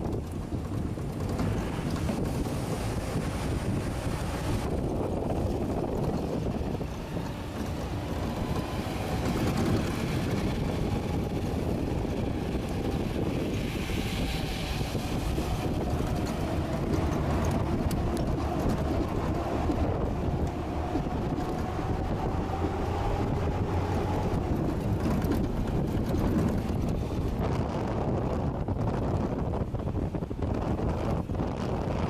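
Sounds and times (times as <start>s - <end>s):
truck engine rumbling: 0.0s - 32.0s
wind on microphone: 0.0s - 32.0s.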